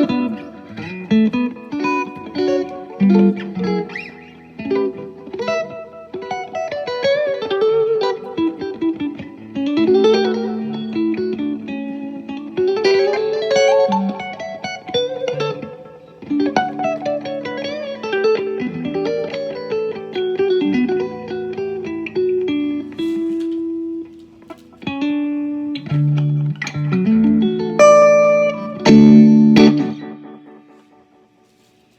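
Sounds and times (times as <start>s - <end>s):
electric guitar lead lines: 0.0s - 31.4s.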